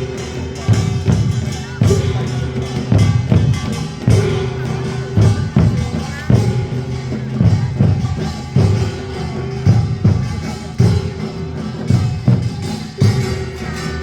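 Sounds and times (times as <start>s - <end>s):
drums and percussion beating: 0.0s - 14.0s
held melodic tones: 0.0s - 14.0s.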